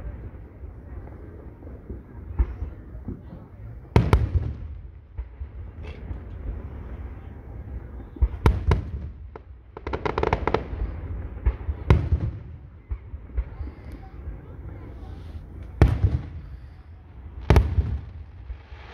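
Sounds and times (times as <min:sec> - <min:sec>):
fireworks crackling: 0:01.2 - 0:18.9
fireworks bangs: 0:01.3 - 0:18.9.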